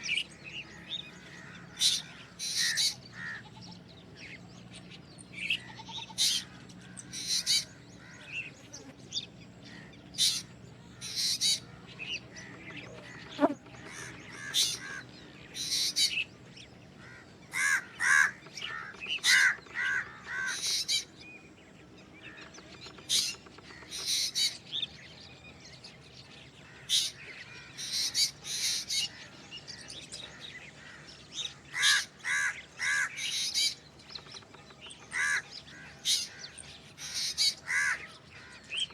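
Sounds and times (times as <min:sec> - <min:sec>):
bird calling: 0:00.0 - 0:03.9, 0:05.4 - 0:21.2, 0:22.1 - 0:25.0, 0:26.4 - 0:38.9.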